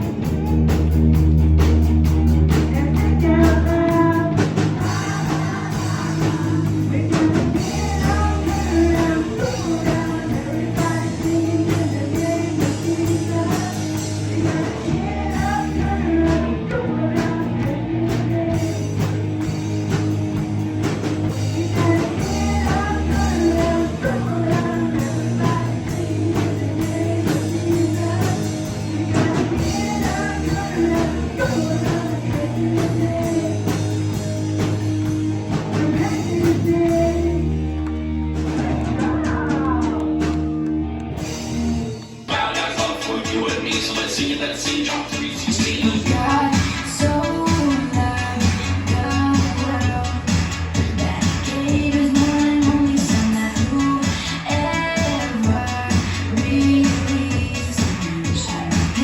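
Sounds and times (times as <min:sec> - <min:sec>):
rock song with singing: 0:00.0 - 0:59.0.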